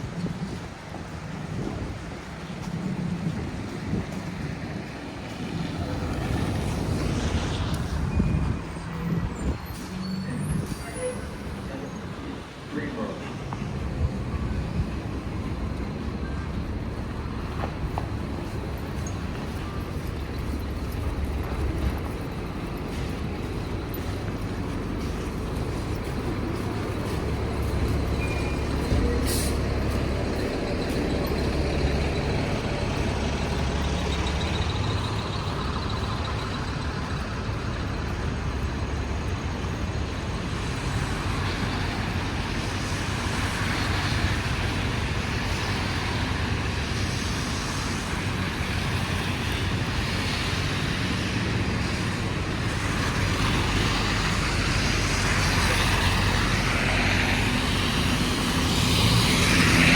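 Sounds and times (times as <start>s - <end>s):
heavy vehicles rumbling past: 0.0s - 59.9s.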